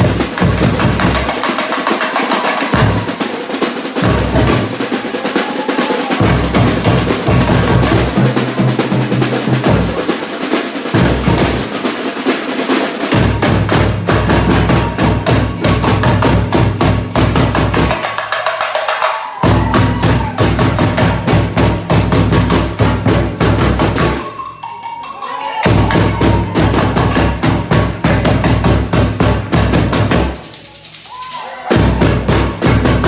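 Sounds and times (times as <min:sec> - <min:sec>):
rapid snare drums: 0:00.0 - 0:24.4, 0:25.6 - 0:33.0
clattering high percussion: 0:00.0 - 0:33.0.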